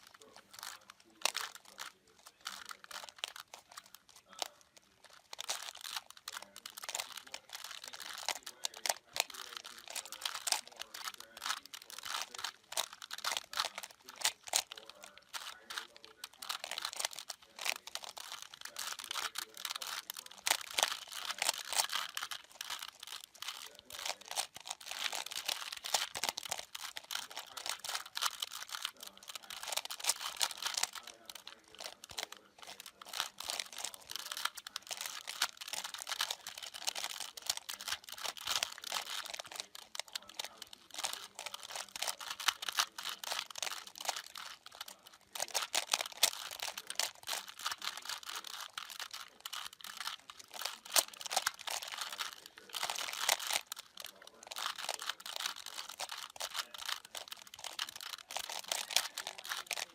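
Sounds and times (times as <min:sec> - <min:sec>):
puzzle cube clicking and rattling: 0:00.0 - 0:59.9.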